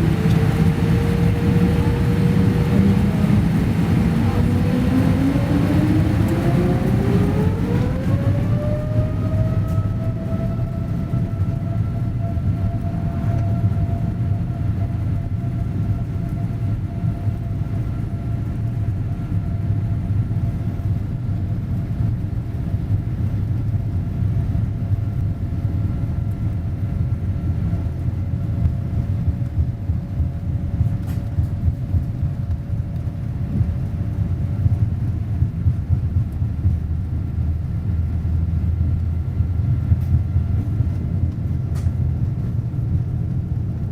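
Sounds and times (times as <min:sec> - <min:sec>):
deep engine rumble: 0:00.0 - 0:43.9
jet engine whine: 0:00.0 - 0:43.9.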